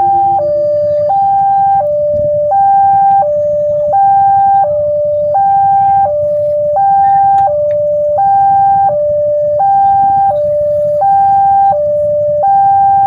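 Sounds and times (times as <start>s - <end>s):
steady low rumble: 0.0s - 13.0s
two-tone crossing alarm: 0.0s - 13.0s.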